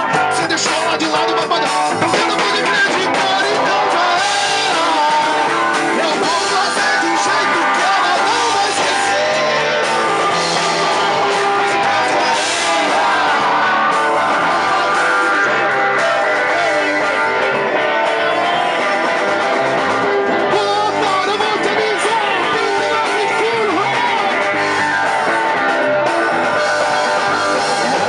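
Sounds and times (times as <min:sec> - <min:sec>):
bass line: 0:00.0 - 0:28.0
guitar-led rock music: 0:00.0 - 0:28.0.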